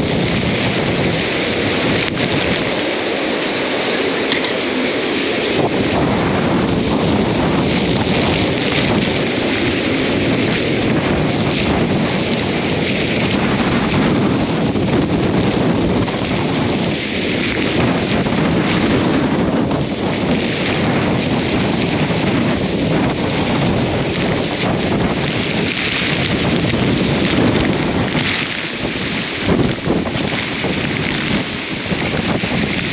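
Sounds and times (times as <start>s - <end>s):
strong wind blowing: 0.0s - 32.9s
wind buffeting microphone: 0.0s - 32.9s.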